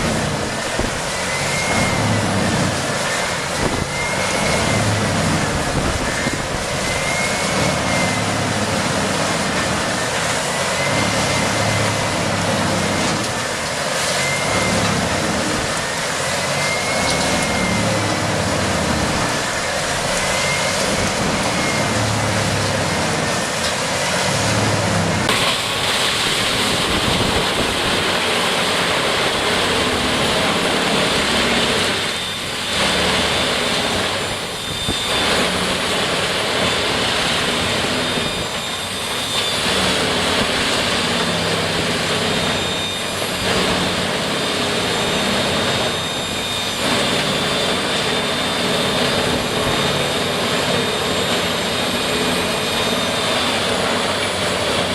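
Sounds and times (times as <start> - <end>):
heavy machine rushing noise: 0.0 - 54.9.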